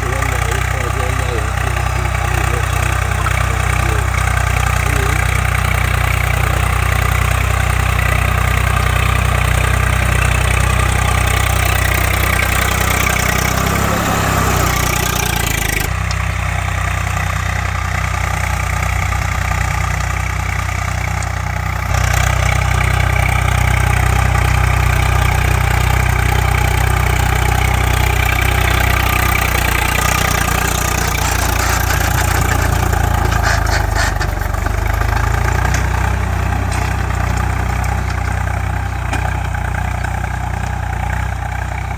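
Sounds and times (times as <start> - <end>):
tractor diesel engine drone: 0.0 - 41.9.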